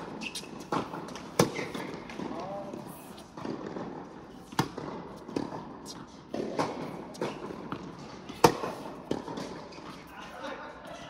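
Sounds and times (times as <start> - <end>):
ball bouncing on hard court: 0.0 - 2.8, 3.4 - 10.0
racket hitting tennis ball: 0.0 - 10.1.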